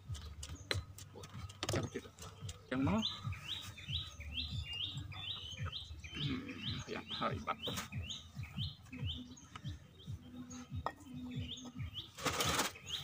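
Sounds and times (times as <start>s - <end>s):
bird chirping repeatedly: 0.0s - 13.0s.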